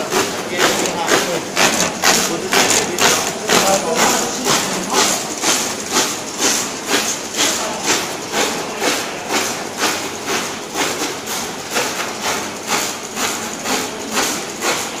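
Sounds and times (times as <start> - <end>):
label printing machine clacking: 0.0 - 15.0.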